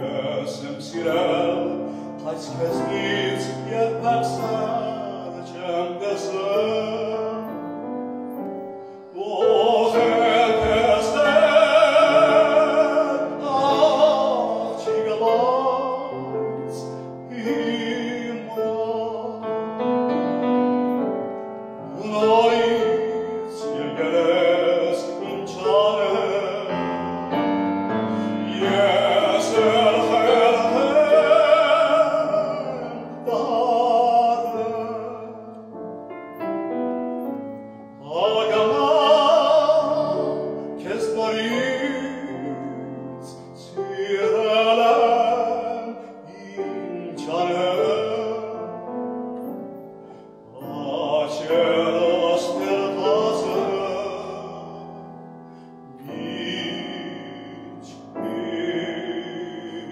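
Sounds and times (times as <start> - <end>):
man singing operatically: 0.0 - 8.0, 9.0 - 21.0, 21.7 - 35.7, 37.9 - 49.2, 50.4 - 55.3, 55.9 - 59.9
grand piano: 0.0 - 59.9.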